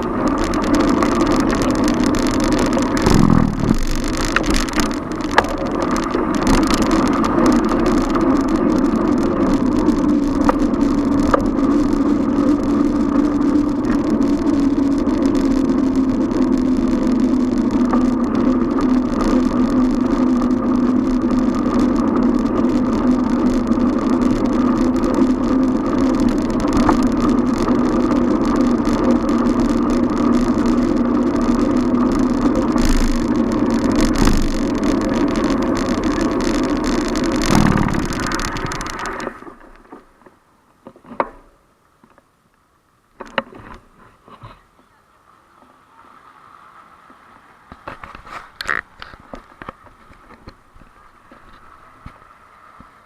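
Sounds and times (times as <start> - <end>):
traffic: 0.0 - 42.2, 43.0 - 53.0
bicycle road noise hum: 0.0 - 53.0.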